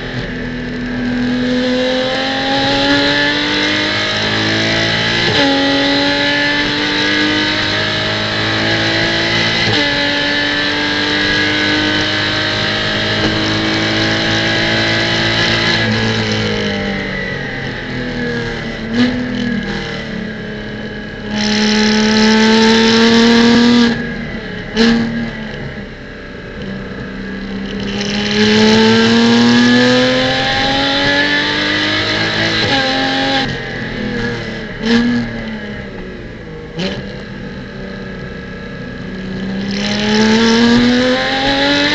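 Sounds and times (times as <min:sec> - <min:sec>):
racing car engine accelerating: 0:00.0 - 0:41.9.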